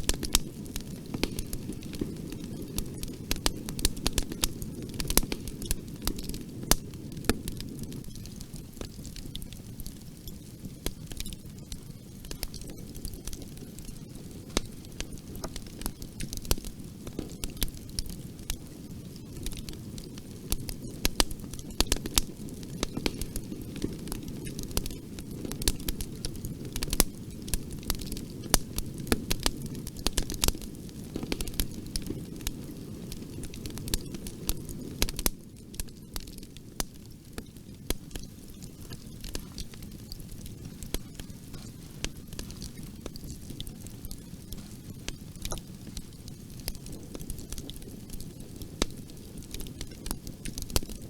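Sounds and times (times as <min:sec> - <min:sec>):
low rush of flames: 0:00.0 - 0:51.0
wood crackling and popping: 0:00.0 - 0:51.0.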